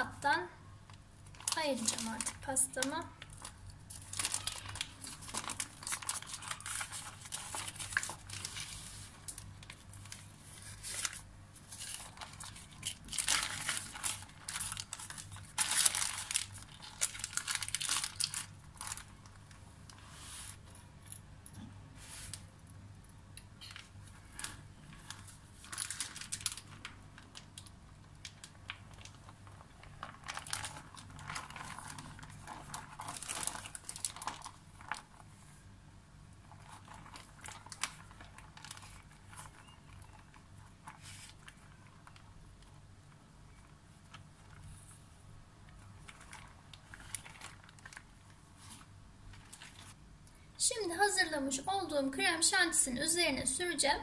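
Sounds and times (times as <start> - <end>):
baking paper rustling: 1.2 - 20.7, 23.6 - 35.7, 36.4 - 50.0.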